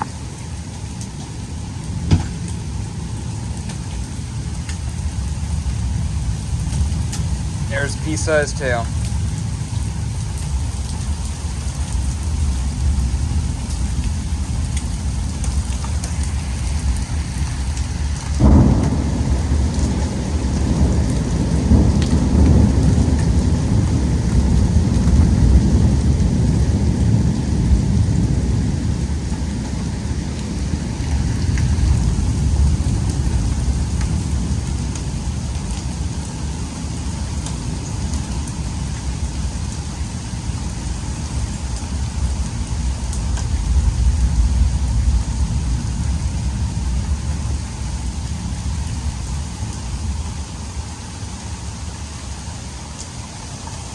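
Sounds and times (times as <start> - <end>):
heavy rain falling: 0.0 - 53.9
thunder crack and rumble: 1.8 - 49.8.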